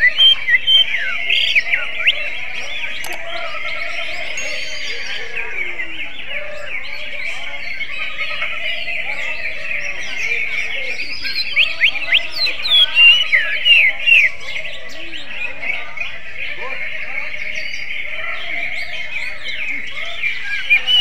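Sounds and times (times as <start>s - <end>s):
bird whistling song: 0.0s - 16.4s, 18.9s - 21.0s
dense background chirping: 0.0s - 21.0s.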